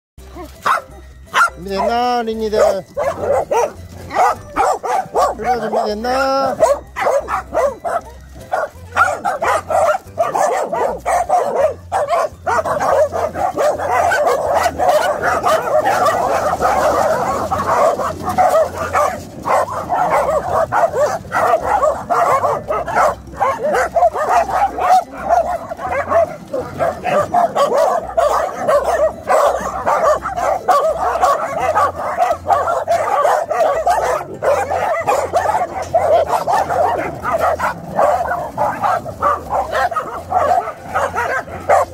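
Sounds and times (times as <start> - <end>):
dogs barking and yipping: 0.2 - 41.9
dogs whining: 0.2 - 41.9.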